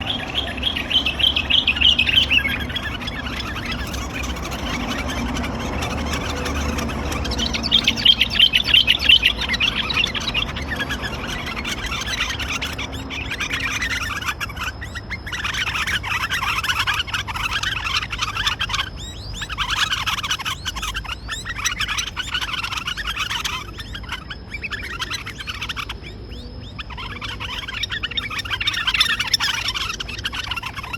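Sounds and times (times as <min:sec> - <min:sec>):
birds harsh chattering calls: 0:00.0 - 0:30.9.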